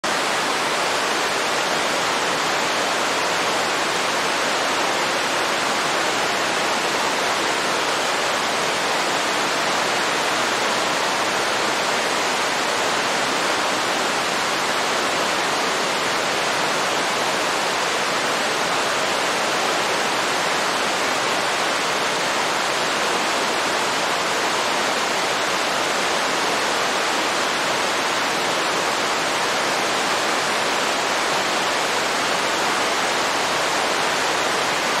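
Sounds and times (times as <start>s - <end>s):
waterfall roaring: 0.0s - 35.0s.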